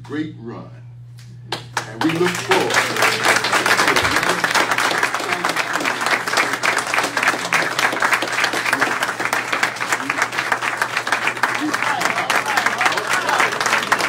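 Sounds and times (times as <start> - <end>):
audience applause: 1.8 - 14.0.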